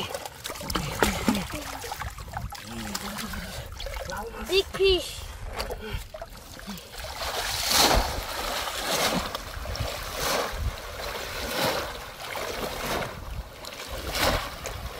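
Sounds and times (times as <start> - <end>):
person wading through water: 0.0 - 14.9.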